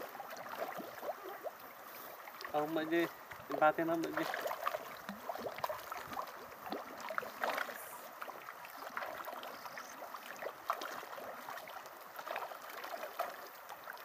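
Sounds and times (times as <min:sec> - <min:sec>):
pond water splashing: 0:00.0 - 0:14.0.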